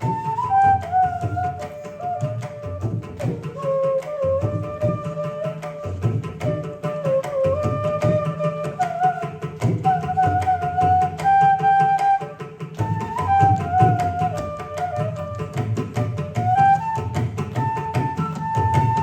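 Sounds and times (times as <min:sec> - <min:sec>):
bamboo flute melody: 0:00.0 - 0:19.0
hand drum strokes: 0:00.0 - 0:19.0.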